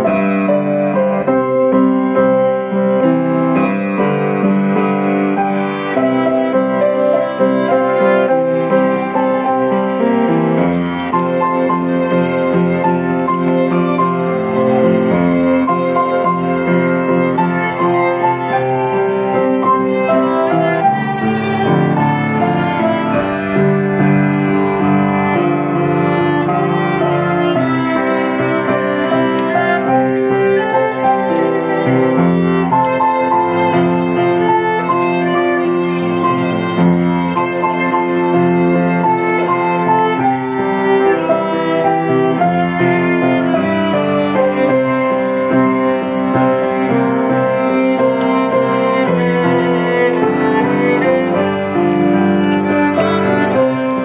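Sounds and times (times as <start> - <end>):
violin and piano music: 0.0 - 54.0.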